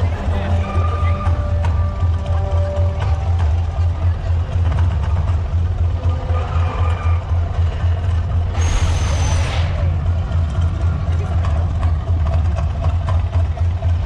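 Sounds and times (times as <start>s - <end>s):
deep steady rumble: 0.0s - 14.0s.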